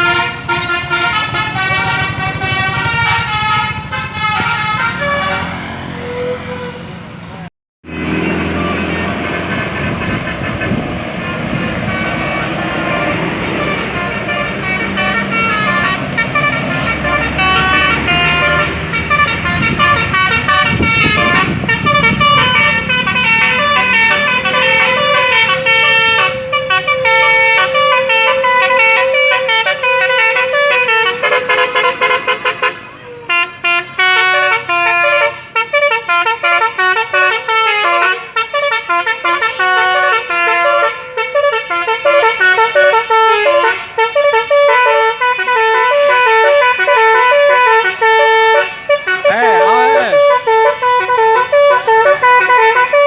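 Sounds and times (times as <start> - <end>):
musical air horn tune: 0.0 - 7.0, 8.2 - 53.0.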